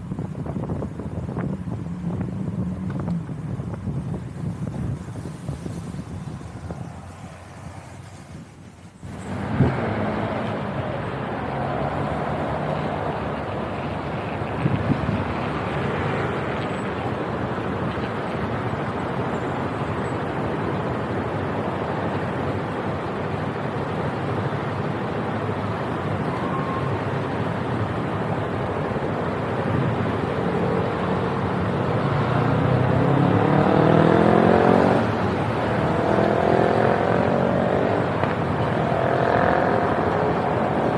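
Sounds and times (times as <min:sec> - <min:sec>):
wind and road noise: 0:00.0 - 0:40.9.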